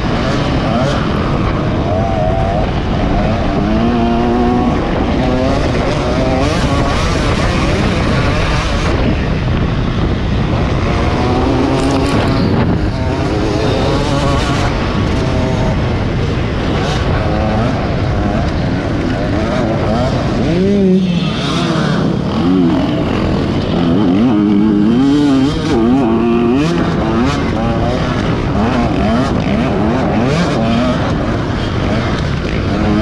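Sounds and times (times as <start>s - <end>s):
racing engines revving: 0.0s - 33.0s.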